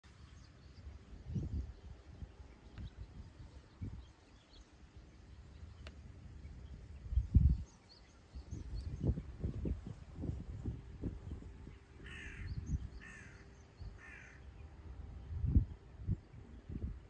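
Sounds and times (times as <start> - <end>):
faint bird chirps: 0.1 - 17.0
wind buffeting microphone: 0.3 - 17.0.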